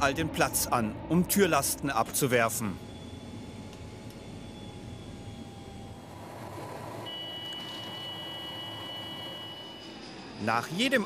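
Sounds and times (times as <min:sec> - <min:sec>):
steady high electronic tone: 0:00.0 - 0:11.0
turboprop aircraft cabin noise: 0:00.0 - 0:11.0.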